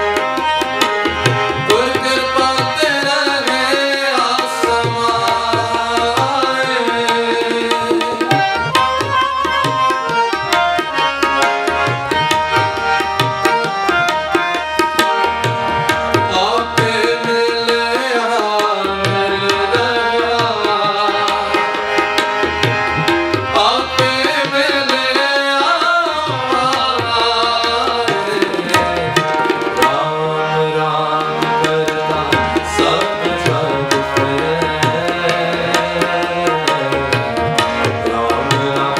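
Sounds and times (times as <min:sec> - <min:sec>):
tabla playing a steady rhythm: 0:00.0 - 0:38.9.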